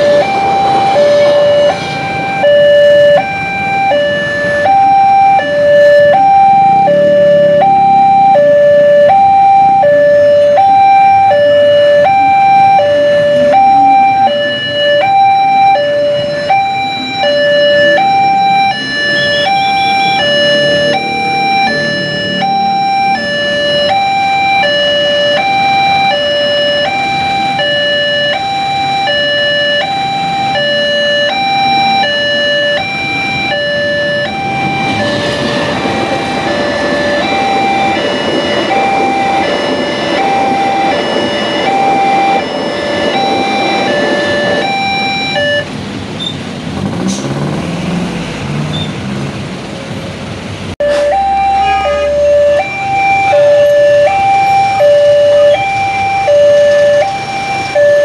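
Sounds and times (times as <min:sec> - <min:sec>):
level crossing alarm: 0:00.0 - 0:45.8, 0:50.8 - 0:58.0
train passing: 0:00.0 - 0:58.0.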